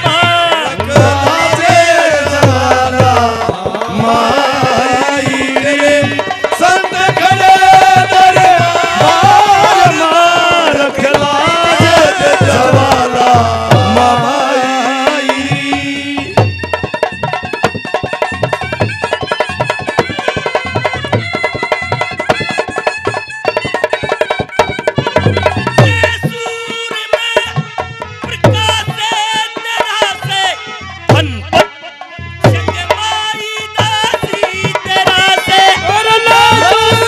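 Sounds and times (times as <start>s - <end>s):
person singing folk song: 0.0s - 16.7s, 23.5s - 37.0s
hand drum rhythm: 0.0s - 37.0s.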